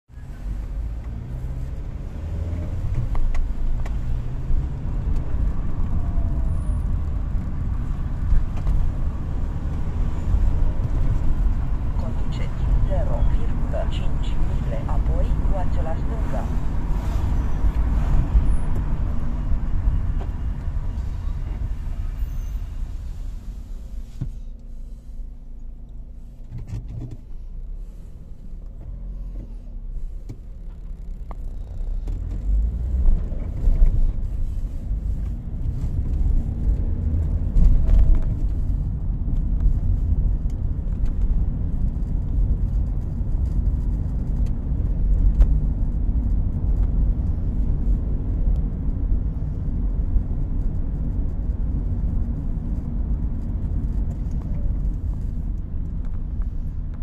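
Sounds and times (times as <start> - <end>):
car engine from inside cabin: 0.0 - 57.0
road rumble: 0.0 - 57.0.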